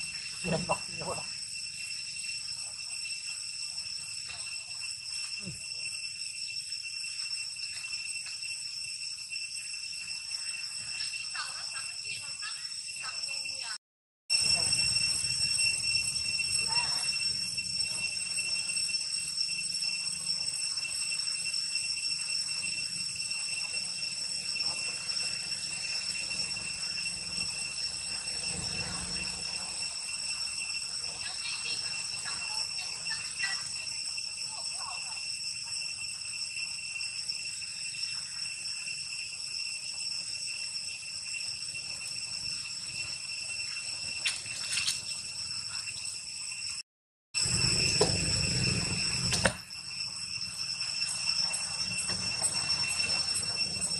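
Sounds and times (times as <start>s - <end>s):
high-pitched insect drone: 0.0s - 53.9s.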